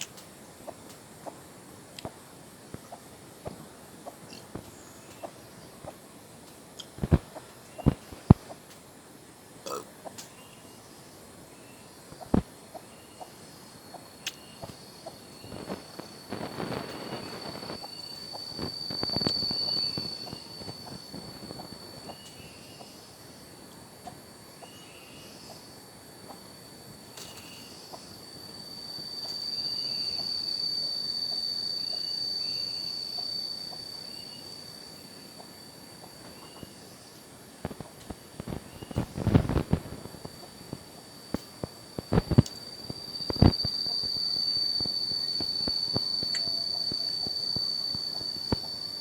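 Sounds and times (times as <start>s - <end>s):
faint chirps: 0.0s - 49.0s
insects buzzing: 0.0s - 49.0s.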